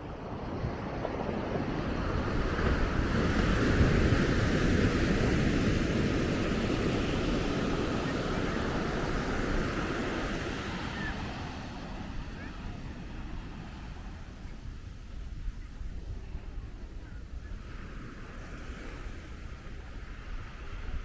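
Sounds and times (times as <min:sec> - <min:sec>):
surf washing onto beach: 0:00.0 - 0:21.0
wind rumbling on microphone: 0:00.0 - 0:21.0.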